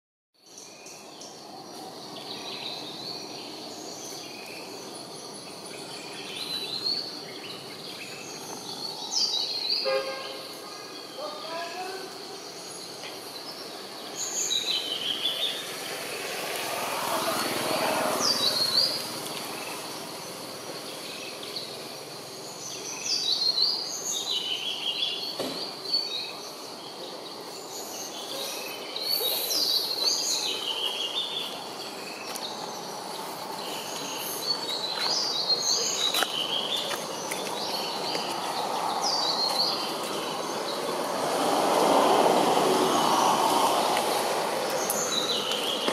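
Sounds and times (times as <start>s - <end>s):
birds calling: 1.2s - 45.9s.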